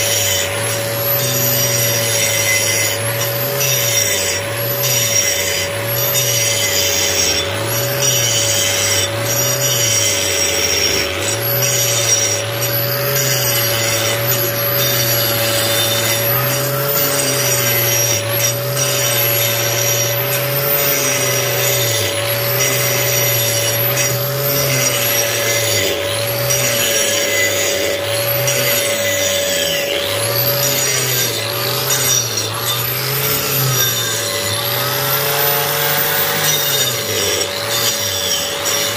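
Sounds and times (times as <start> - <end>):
angle grinder grinding concrete: 0.0 - 38.9.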